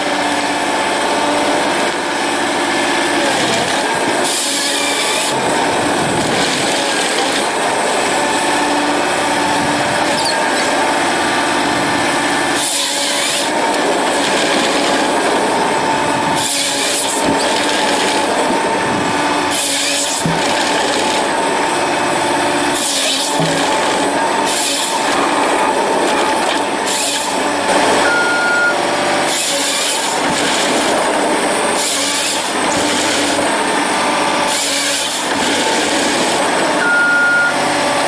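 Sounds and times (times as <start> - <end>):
chainsaw cutting log: 0.0 - 38.0
harvester engine and hydraulics: 0.0 - 38.0.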